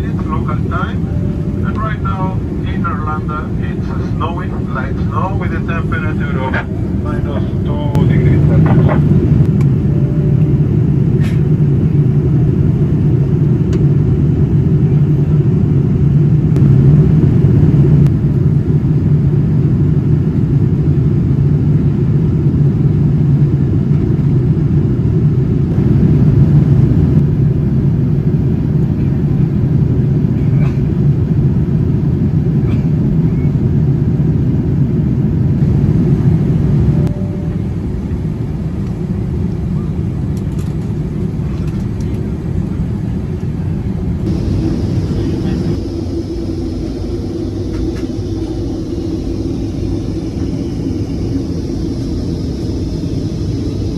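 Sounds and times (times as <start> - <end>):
airplane cabin noise in flight: 0.0 - 53.9.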